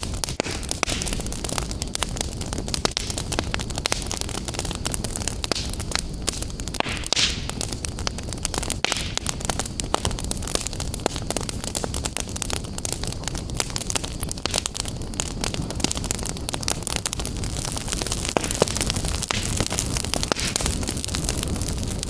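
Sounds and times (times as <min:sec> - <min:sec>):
fire crackles and pops: 0:00.0 - 0:22.0
fire hissing flare-ups: 0:00.0 - 0:22.0
fire low rumble: 0:00.0 - 0:22.0.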